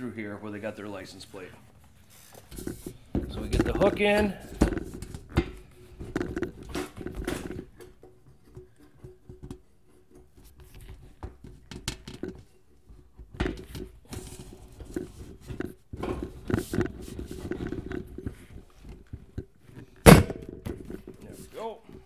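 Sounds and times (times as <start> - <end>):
knocks taps and scrapes: 1.3 - 22.0.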